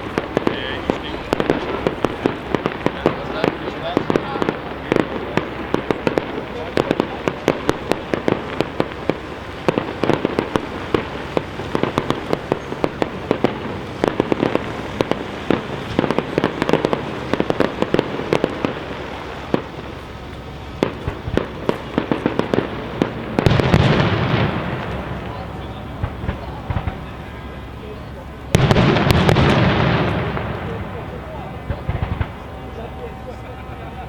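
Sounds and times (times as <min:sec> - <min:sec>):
deep firework boom: 0:00.0 - 0:34.0
fireworks cracking and popping: 0:00.0 - 0:34.0.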